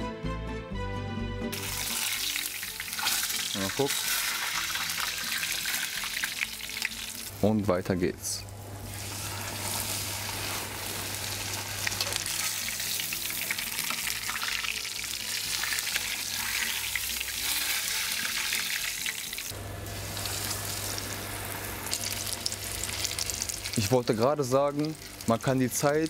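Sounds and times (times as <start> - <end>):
schnitzels sizzling in hot fat: 1.5 - 7.4, 8.5 - 26.0.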